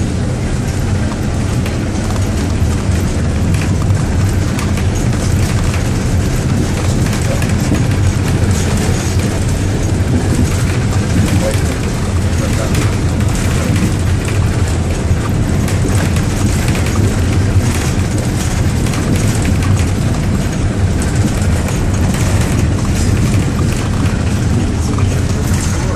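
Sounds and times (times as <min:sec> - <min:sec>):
minibus engine and road rumble: 0:00.0 - 0:25.9.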